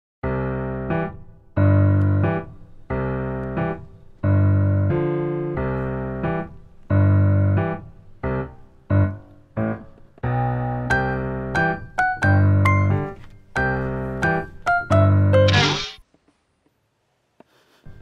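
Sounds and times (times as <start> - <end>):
piano keyboard playing chords: 0.2 - 16.0.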